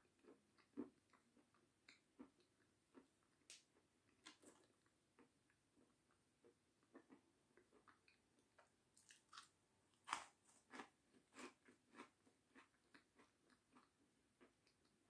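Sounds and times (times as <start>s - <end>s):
meringue crunching while chewed: 0.1s - 15.0s.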